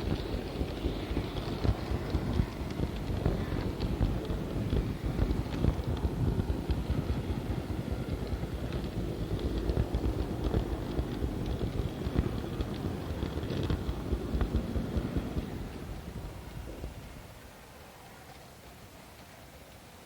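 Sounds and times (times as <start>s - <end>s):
model tram rumbling on rails: 0.0s - 20.0s.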